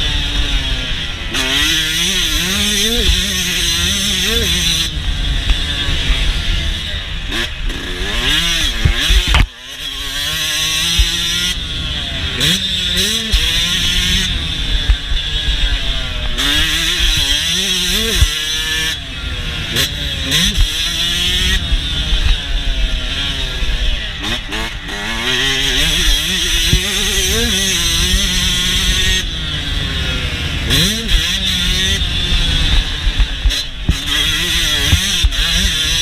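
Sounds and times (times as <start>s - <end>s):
two-stroke motorcycle engine revving: 0.0s - 36.0s.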